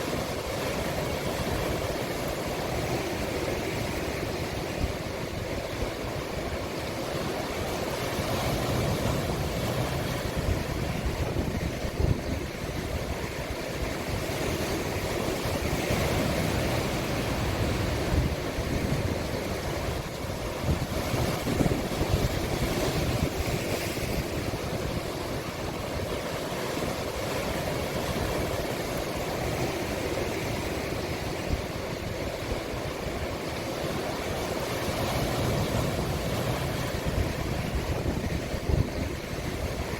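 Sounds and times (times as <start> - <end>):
sea waves breaking on shore: 0.0 - 39.9
wind rumbling on microphone: 0.0 - 39.9.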